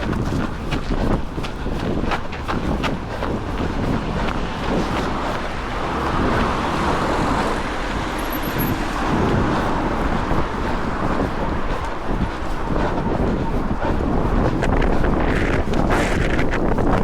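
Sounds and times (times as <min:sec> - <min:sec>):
cars passing: 0:00.0 - 0:17.0
wind rumbling on microphone: 0:00.0 - 0:17.0.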